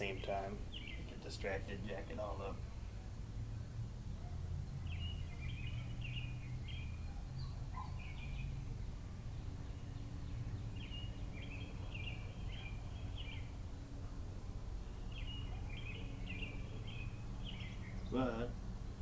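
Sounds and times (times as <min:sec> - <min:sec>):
bird chirping: 0:00.0 - 0:13.6, 0:14.8 - 0:19.0
low background hum: 0:00.0 - 0:19.0.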